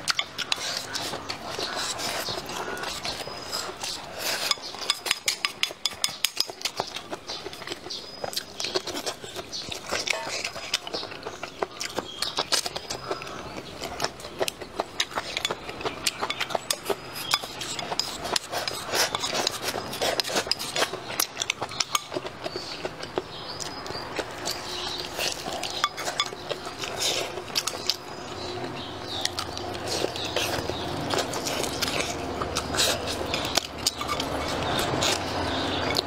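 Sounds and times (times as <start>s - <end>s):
close chewing: 0.0s - 36.0s.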